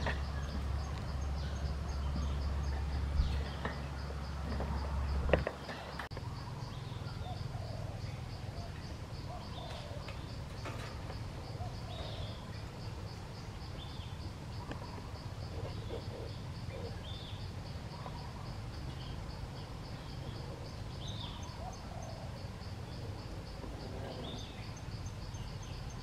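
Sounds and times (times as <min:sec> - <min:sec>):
faint bird calls: 0:00.0 - 0:26.0
insect chirping: 0:00.0 - 0:26.0.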